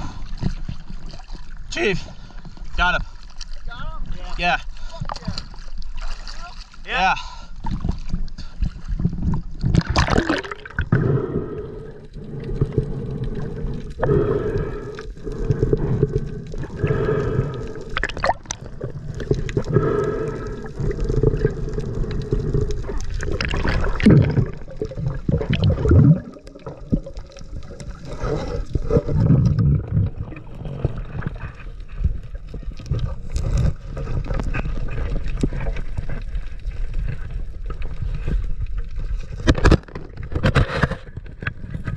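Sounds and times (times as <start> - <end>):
water sloshing and gurgling: 0.0 - 41.9
dull underwater noise: 7.5 - 41.9.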